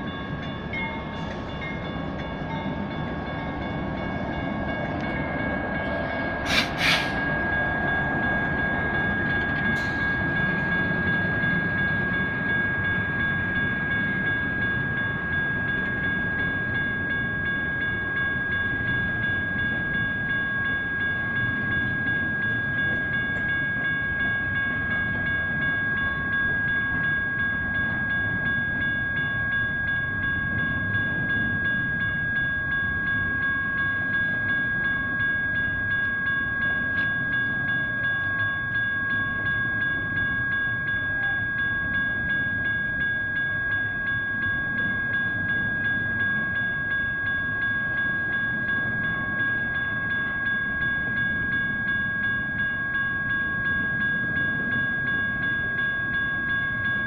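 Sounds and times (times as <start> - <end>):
freight train rumbling past: 0.0 - 52.6
crossing bells ringing: 0.0 - 57.0.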